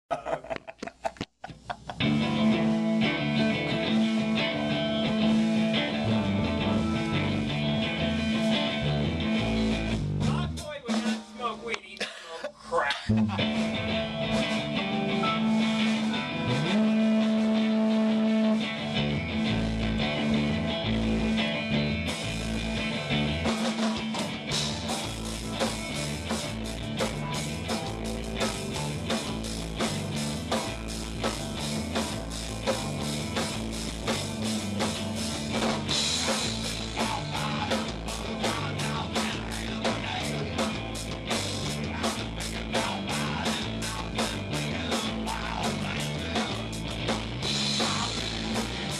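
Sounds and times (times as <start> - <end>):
drum kit beat: 0.1 - 48.9
electric guitar: 1.7 - 10.6, 13.1 - 48.9.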